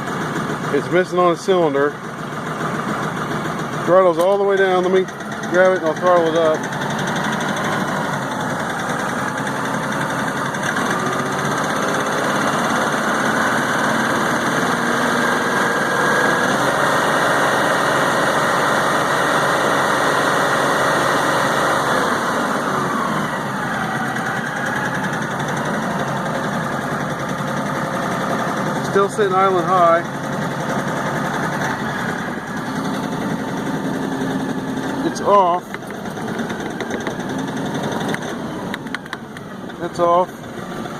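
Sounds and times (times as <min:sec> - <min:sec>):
tractor diesel engine running rough: 0:00.0 - 0:40.9.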